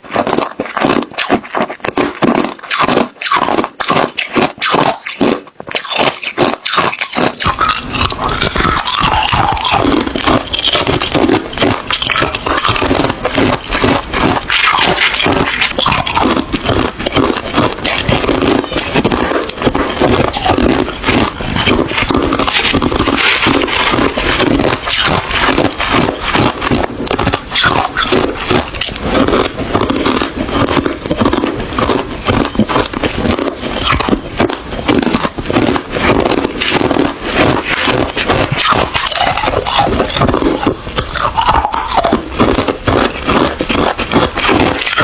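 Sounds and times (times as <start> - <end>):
ice cubes crunching: 0.0 - 45.0.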